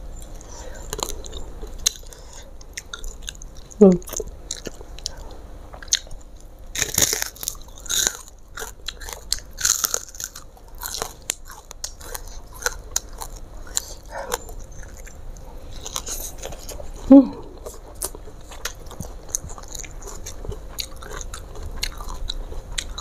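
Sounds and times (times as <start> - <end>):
chewing with crisp crunching: 0.0 - 23.0.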